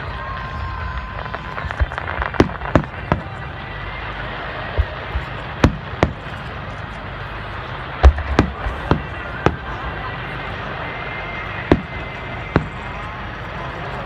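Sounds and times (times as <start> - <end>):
background rumble: 0.0 - 14.0
firework bangs: 0.0 - 14.0.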